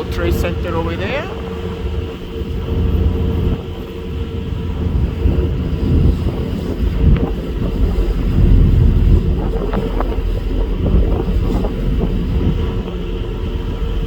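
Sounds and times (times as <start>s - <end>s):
ferry engines droning: 0.0s - 14.0s
wind buffeting microphone: 0.0s - 14.0s.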